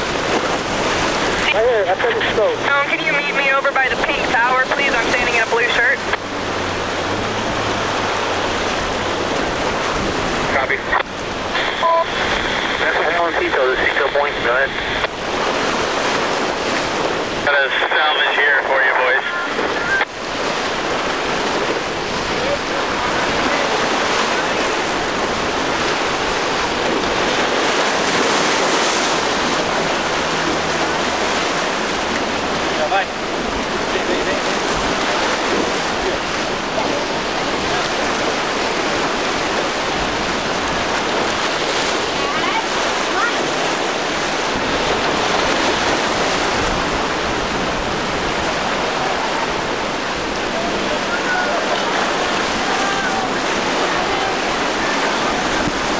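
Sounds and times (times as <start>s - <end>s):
low engine hum: 0.0s - 55.9s
waves rushing: 0.0s - 55.9s.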